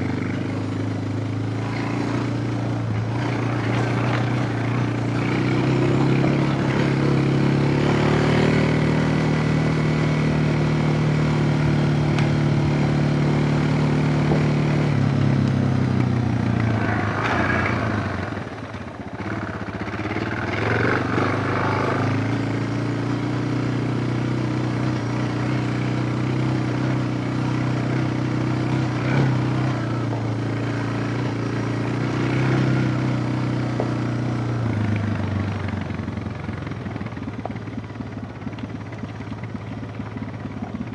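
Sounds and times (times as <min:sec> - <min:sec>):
single-cylinder motorcycle engine: 0:00.0 - 0:40.9.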